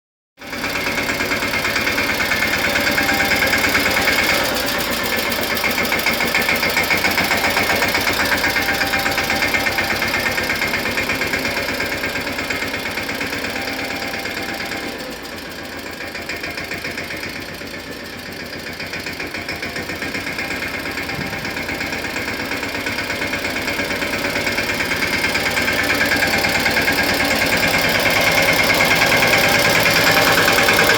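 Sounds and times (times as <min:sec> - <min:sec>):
tractor diesel engine knocking: 0:00.4 - 0:30.9.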